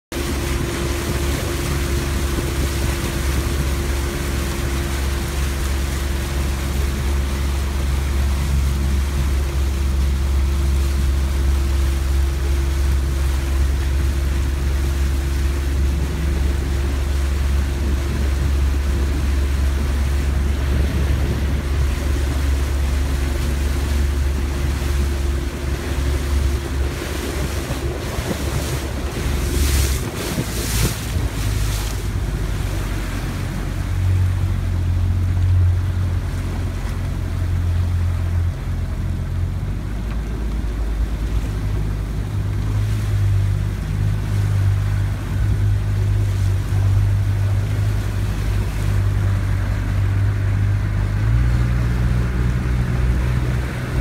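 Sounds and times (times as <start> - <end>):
motorboat engine drone: 0.0 - 54.0
water rushing past hull: 0.0 - 54.0
wind on microphone: 0.1 - 54.0.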